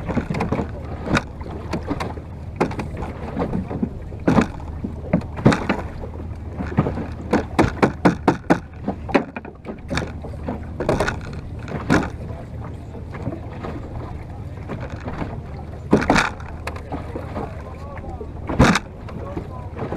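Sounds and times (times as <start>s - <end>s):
steady low rumble: 0.0s - 19.9s
water splashing against boat: 0.0s - 19.9s.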